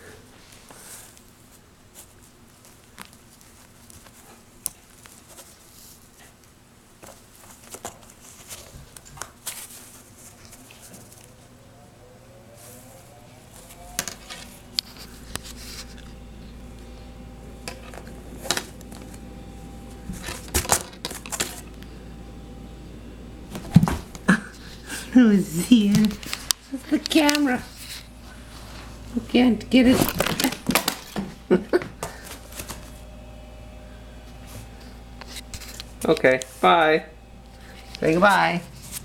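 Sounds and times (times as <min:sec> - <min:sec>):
low steady hum: 0:03.4 - 0:39.0.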